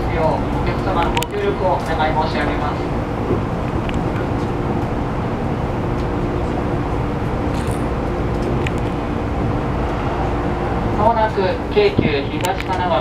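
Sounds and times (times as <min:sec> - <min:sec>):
steady hum: 0:00.0 - 0:13.0
train wheels rumbling on rail: 0:00.0 - 0:13.0.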